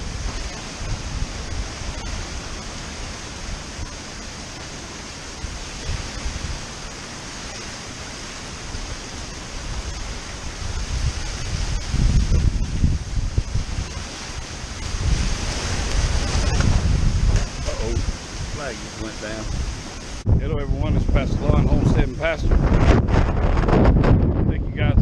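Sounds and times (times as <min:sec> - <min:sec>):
ocean surf: 0:00.0 - 0:25.0
strong wind rushing: 0:00.0 - 0:25.0
wind buffeting microphone: 0:00.0 - 0:25.0.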